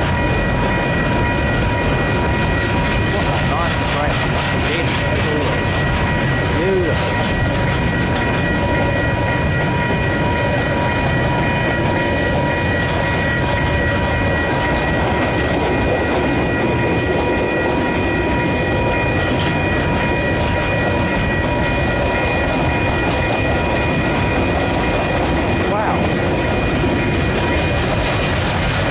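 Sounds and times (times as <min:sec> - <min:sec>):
steady high whine: 0:00.0 - 0:28.9
train wheels clacking on rails: 0:00.0 - 0:28.9.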